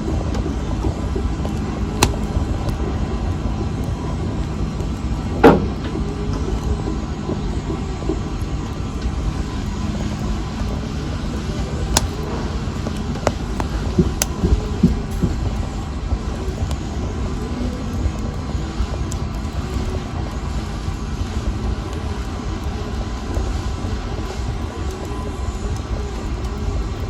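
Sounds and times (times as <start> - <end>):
wood fire flames rumbling: 0.0 - 27.0
fire crackling pops: 0.3 - 6.8, 8.2 - 26.6.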